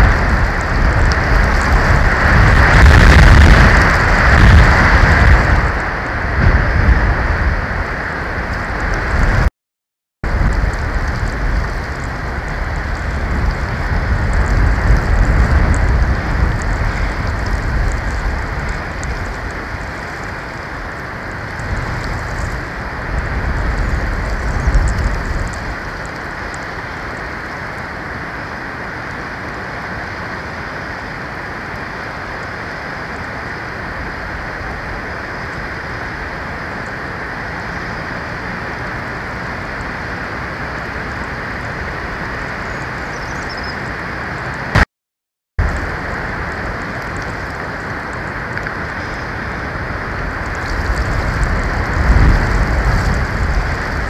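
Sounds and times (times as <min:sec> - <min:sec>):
wind gusts buffeting microphone: 0:00.0 - 0:09.5, 0:10.2 - 0:44.8, 0:45.6 - 0:54.0.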